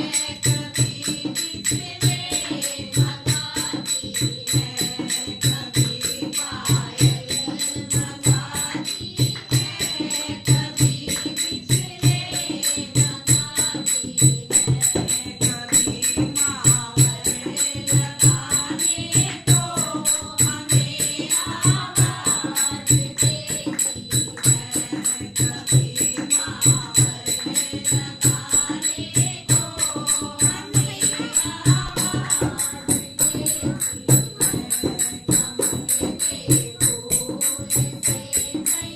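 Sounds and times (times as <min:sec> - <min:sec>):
fast percussion beat: 0:00.0 - 0:38.9
voices singing devotional song: 0:00.0 - 0:38.9.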